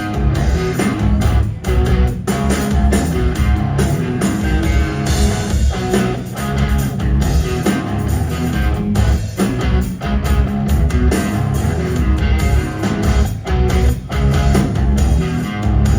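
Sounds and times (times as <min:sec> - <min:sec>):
live rock band playing: 0:00.0 - 0:15.9.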